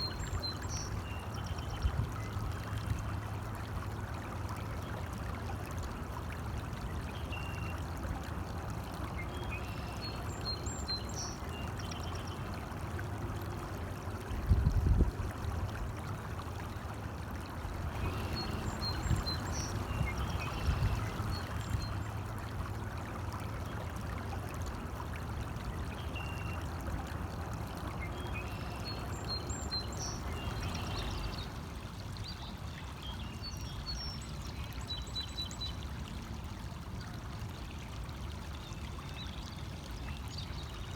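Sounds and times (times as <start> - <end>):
small stream flowing: 0.0 - 40.9.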